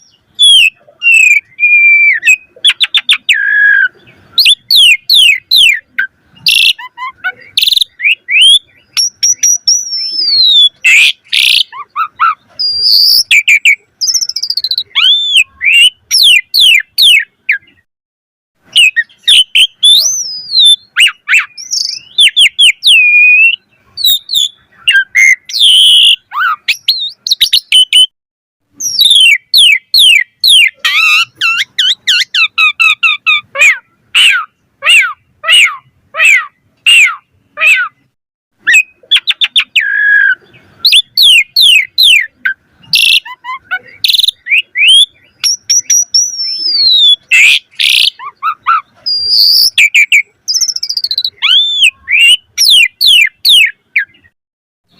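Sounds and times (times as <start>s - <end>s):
starling singing: 0.0s - 17.9s, 18.6s - 28.1s, 28.7s - 54.9s.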